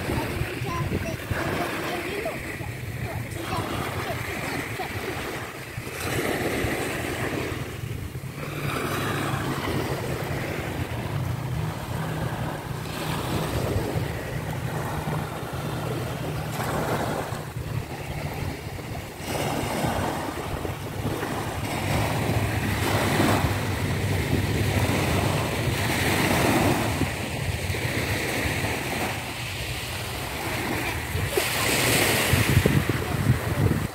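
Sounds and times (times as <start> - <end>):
waves washing on sandy shore: 0.0 - 33.9
wind on microphone: 0.0 - 33.9.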